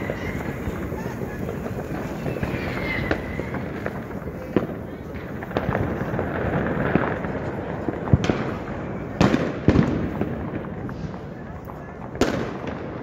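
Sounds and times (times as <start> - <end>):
distant fireworks crackling and popping: 0.0 - 13.0
firework bangs: 0.0 - 13.0.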